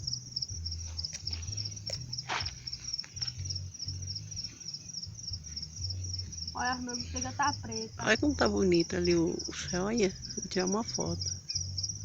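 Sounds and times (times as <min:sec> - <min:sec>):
crickets chirping: 0:00.0 - 0:12.0
low rumble: 0:00.0 - 0:12.0.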